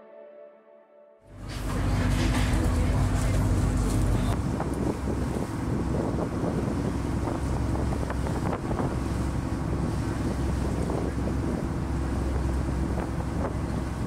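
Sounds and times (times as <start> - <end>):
wind rumbling on microphone: 1.3 - 14.0.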